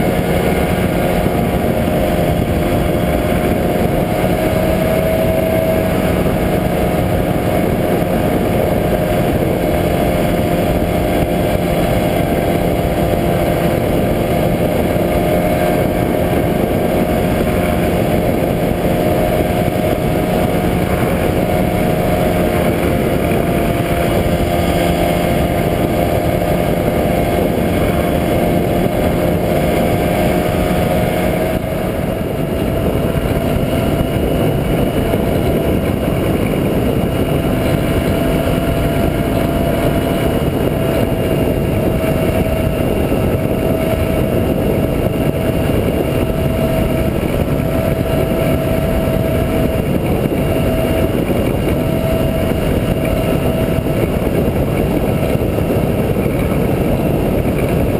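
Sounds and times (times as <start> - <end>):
two-stroke engine drone in flight: 0.0 - 57.9
wind noise: 0.0 - 57.9.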